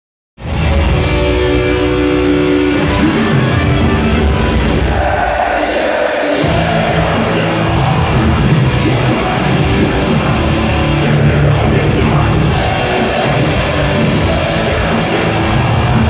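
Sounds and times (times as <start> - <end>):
live metal band playing: 0.4 - 16.0.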